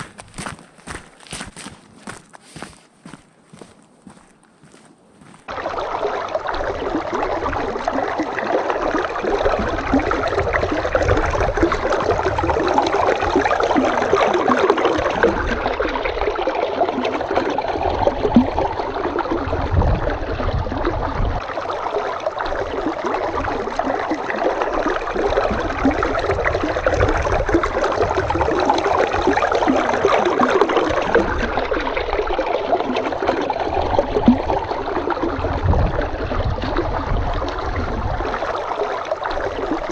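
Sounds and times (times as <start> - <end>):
stream flowing and splashing: 0.0 - 39.9.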